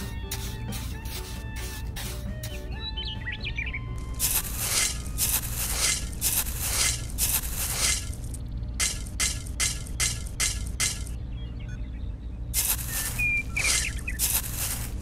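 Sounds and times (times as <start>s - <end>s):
small shovel digging dry soil: 0.0s - 2.7s, 4.0s - 11.1s, 12.6s - 15.0s.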